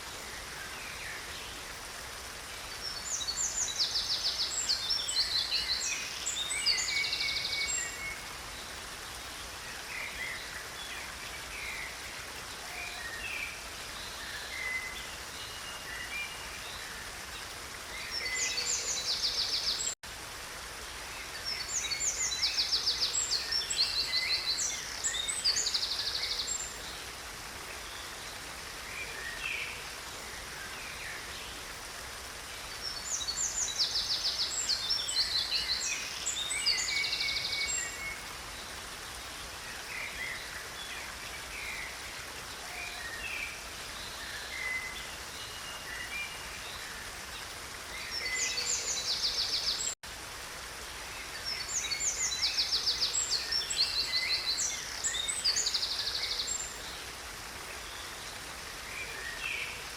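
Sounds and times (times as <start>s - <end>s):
songbirds trilling and chirping: 0.0s - 59.9s
stream water running: 0.0s - 59.9s.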